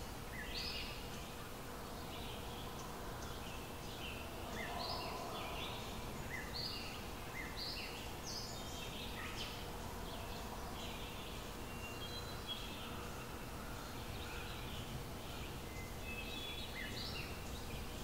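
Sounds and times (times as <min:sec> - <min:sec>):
background hiss: 0:00.0 - 0:18.0
faint hum: 0:00.0 - 0:18.0
small birds chirping: 0:00.0 - 0:18.0.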